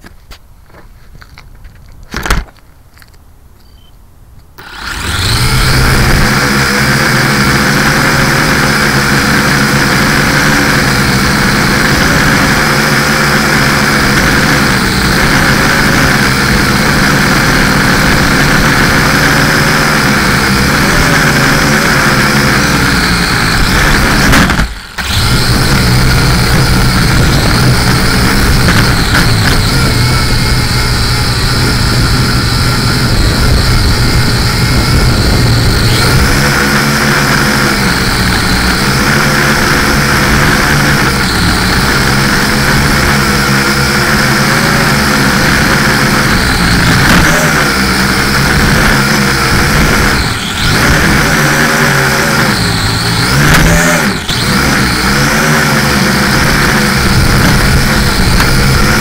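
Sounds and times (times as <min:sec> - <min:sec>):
quadcopter propellers whining: 0:04.6 - 0:59.0.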